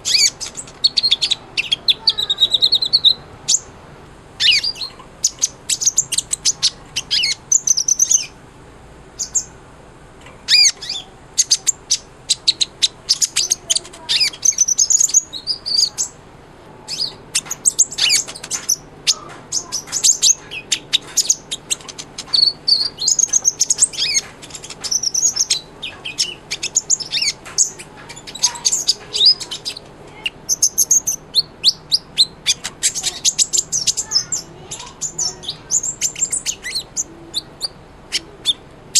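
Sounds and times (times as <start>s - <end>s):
sunbird twittering song: 0.0s - 3.8s, 4.4s - 8.4s, 9.2s - 9.6s, 10.4s - 16.2s, 16.9s - 38.6s.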